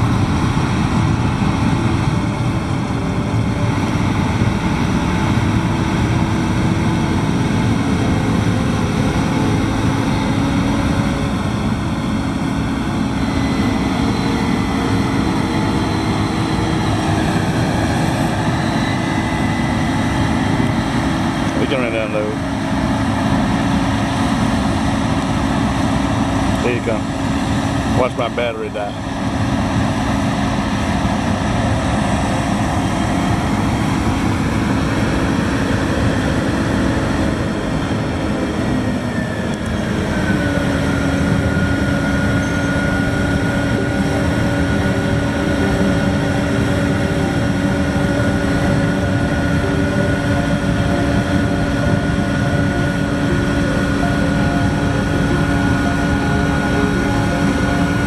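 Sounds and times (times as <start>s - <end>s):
whining tone sliding down: 0.0s - 28.0s, 28.8s - 58.0s
harvest machinery engines running: 0.0s - 58.0s.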